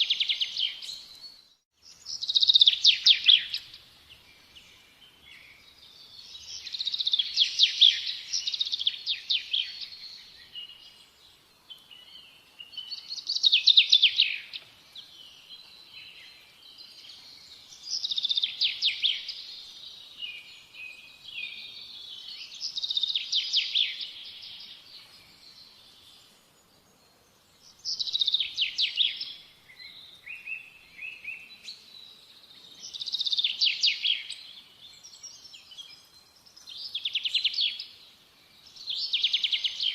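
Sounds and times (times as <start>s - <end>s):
soft bird chirps: 0.0s - 39.9s
songbird singing: 0.0s - 39.9s.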